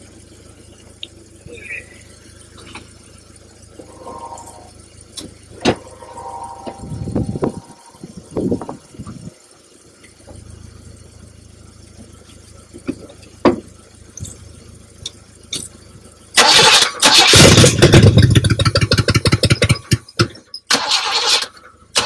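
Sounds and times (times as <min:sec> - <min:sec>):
car engine cranking and starting: 0:00.0 - 0:22.0.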